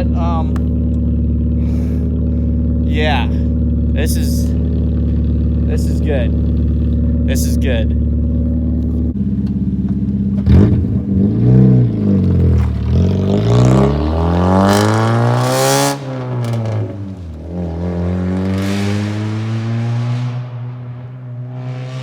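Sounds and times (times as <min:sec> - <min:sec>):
loud car engine revving: 0:00.0 - 0:22.0.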